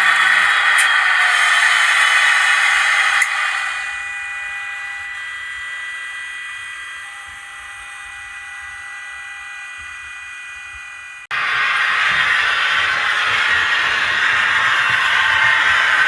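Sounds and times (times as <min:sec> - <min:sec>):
model locomotive electric whine: 0:00.0 - 0:16.0.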